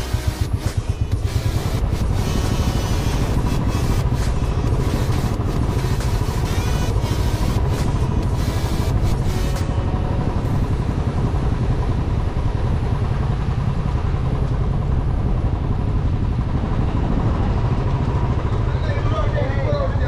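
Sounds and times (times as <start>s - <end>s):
vehicle road noise rumble: 0.0s - 20.0s.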